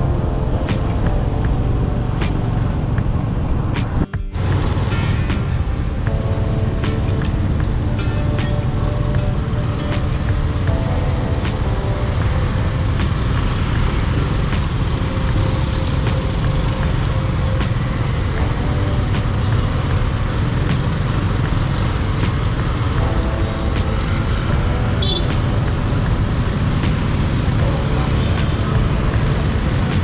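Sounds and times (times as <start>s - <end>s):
city street traffic rumble: 0.0s - 30.0s.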